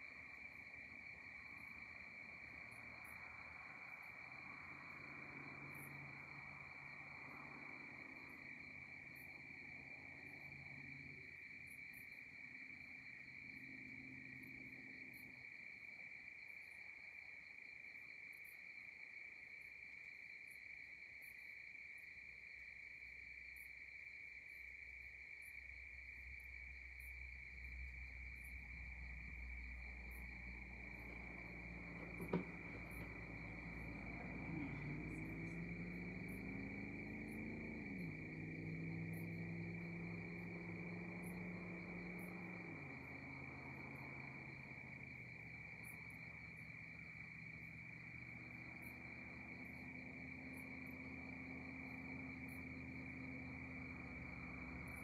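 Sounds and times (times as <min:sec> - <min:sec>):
crickets trilling: 0:00.0 - 0:55.0
high insect chirps: 0:00.0 - 0:55.0.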